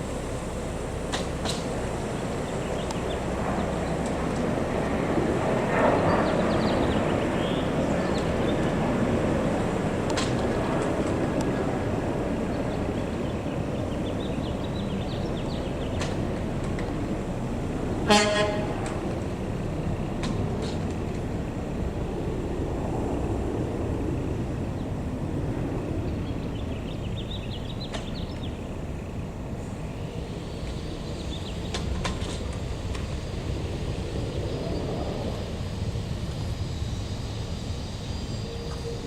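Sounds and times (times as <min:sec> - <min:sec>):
traffic and heavy vehicle engines: 0:00.0 - 0:39.0.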